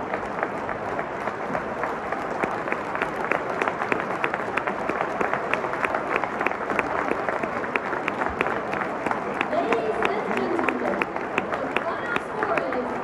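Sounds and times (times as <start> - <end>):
crowd applauding: 0.0 - 13.0
crowd hubbub: 0.0 - 13.0
sharp claps close by: 0.0 - 13.0.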